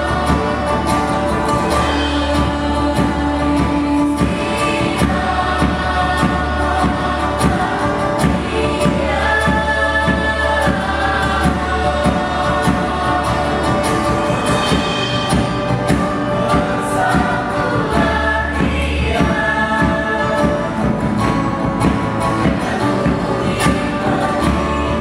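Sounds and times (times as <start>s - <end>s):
chorus singing: 0.0s - 25.0s
live music: 0.0s - 25.0s
steady percussion beat: 0.0s - 25.0s.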